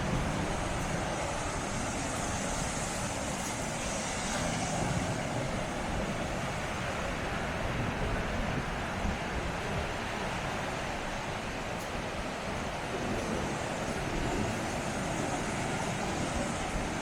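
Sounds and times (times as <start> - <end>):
sea surf rushing: 0.0 - 17.0
wind rumbling on microphone: 0.0 - 17.0.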